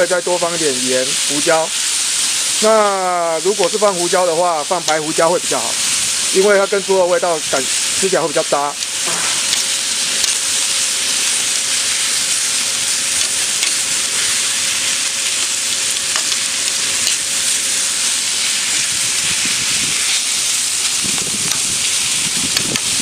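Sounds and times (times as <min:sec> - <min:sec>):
food sizzling on hot plate: 0:00.0 - 0:23.0.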